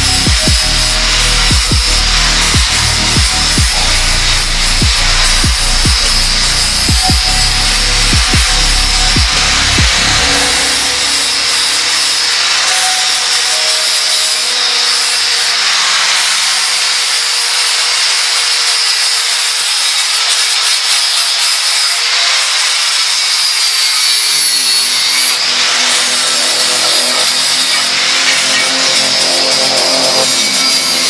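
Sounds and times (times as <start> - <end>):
angle grinder grinding metal: 0.0 - 31.0.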